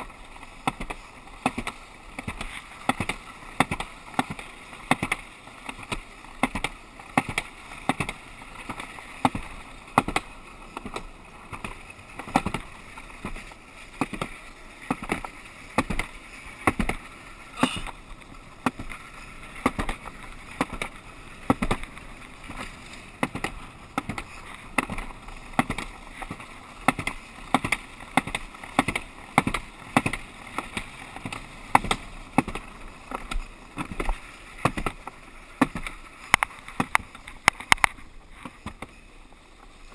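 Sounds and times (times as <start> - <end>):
sled scraping down chute: 0.0 - 39.9.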